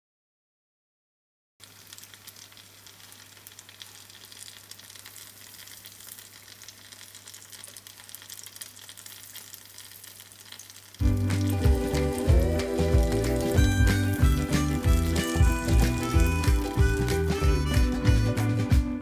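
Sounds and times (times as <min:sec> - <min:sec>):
food sizzling in hot oil: 0:01.6 - 0:18.4.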